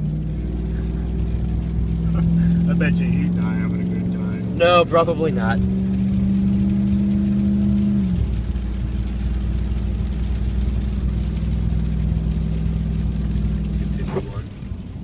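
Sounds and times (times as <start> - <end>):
tyres on wet road: 0.0 - 15.0
vehicle engine hum: 0.0 - 15.0.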